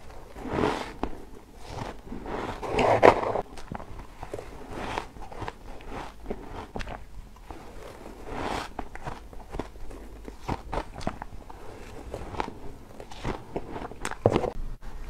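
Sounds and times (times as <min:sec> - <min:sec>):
crunching shaved ice: 0:00.0 - 0:14.4.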